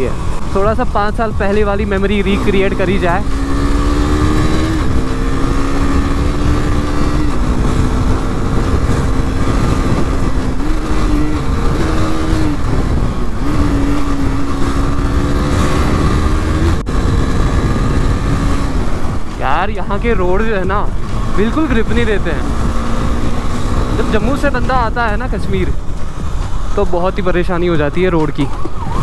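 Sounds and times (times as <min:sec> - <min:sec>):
motorcycle engine revving: 0:00.0 - 0:29.0
wind on microphone: 0:02.4 - 0:26.8.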